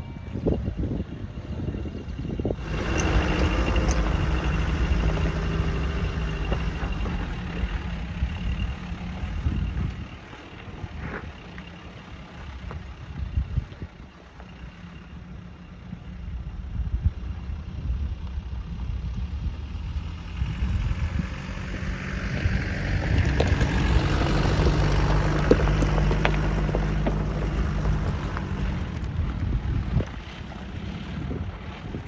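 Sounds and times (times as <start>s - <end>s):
engine running at low revs: 2.4s - 32.0s.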